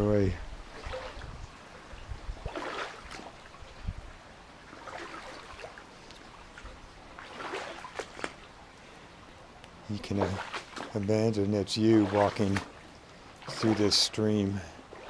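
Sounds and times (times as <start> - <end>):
water splashes: 0.0 - 15.0.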